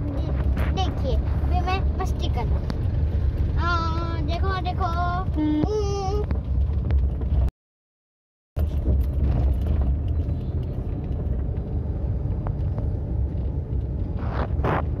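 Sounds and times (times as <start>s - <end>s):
car engine and road noise: 0.0s - 7.5s, 8.6s - 15.0s.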